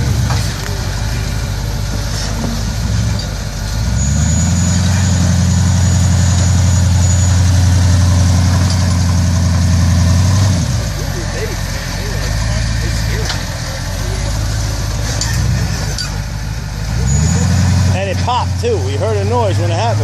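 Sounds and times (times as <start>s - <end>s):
vehicle engine revving: 0.0s - 20.0s.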